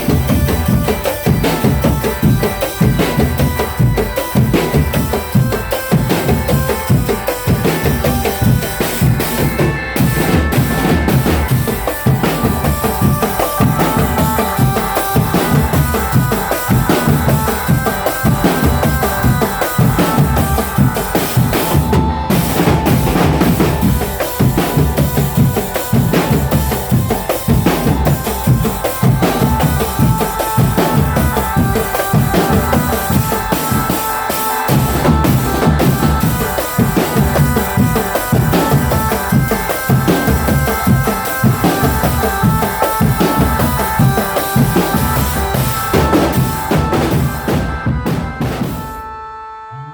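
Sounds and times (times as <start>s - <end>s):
marching drums: 0.0s - 49.4s.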